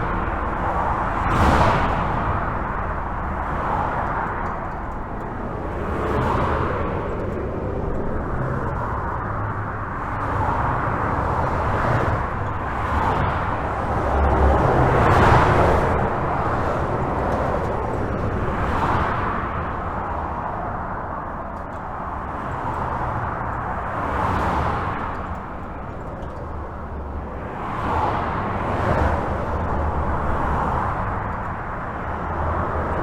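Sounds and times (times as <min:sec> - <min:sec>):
highway traffic rushing: 0:00.0 - 0:33.0
vehicles passing: 0:00.0 - 0:33.0.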